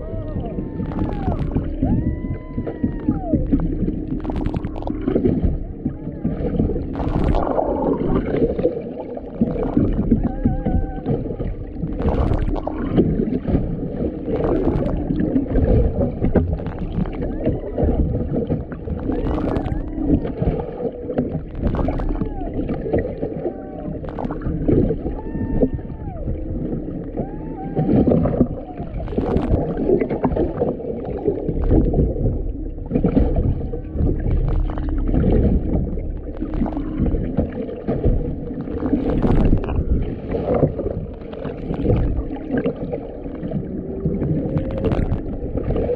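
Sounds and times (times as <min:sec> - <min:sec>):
humpback whale song: 0:00.0 - 0:45.9
low underwater drone: 0:00.0 - 0:45.9
scattered crackles: 0:00.0 - 0:45.9.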